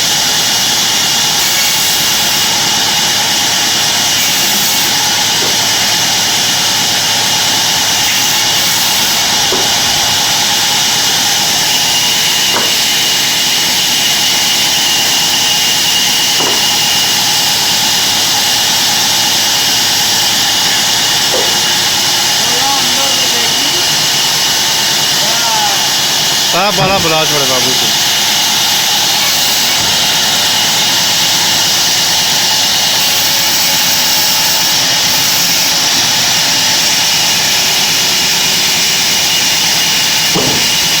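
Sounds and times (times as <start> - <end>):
band saw running: 0.0 - 41.0.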